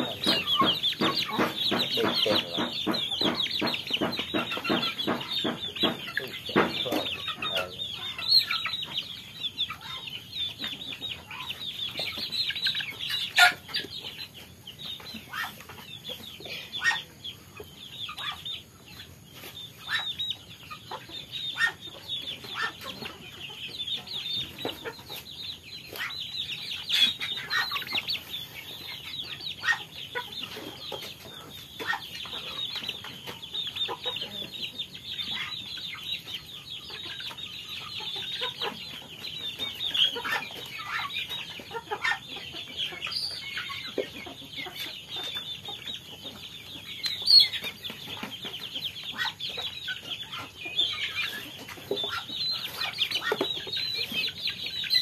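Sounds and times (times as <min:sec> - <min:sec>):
chicks clucking and peeping: 0:00.0 - 0:55.0.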